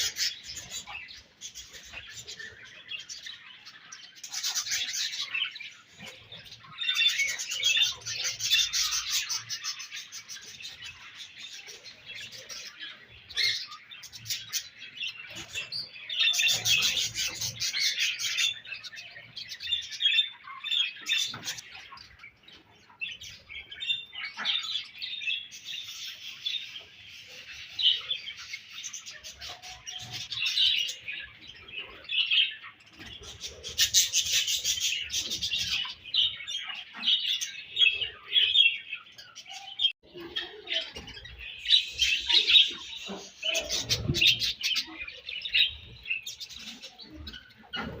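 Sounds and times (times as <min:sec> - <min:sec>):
budgerigars chattering: 0:00.0 - 0:39.6.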